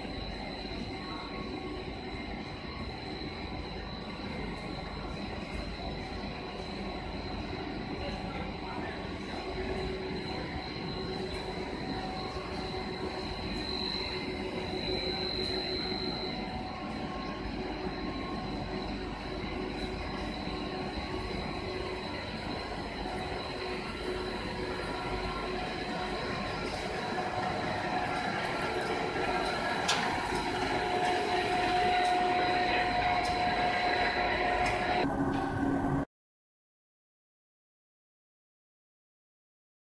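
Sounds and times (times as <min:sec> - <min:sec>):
high-pitched machine whine: 0:00.0 - 0:36.1
machine drone: 0:00.0 - 0:36.1.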